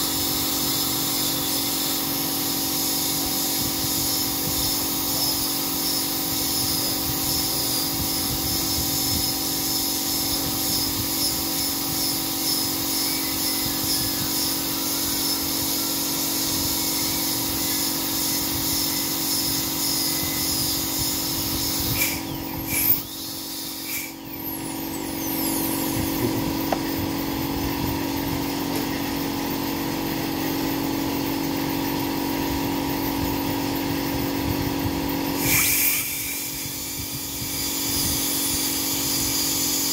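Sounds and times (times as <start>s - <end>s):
dental drill whining: 0.0s - 39.9s.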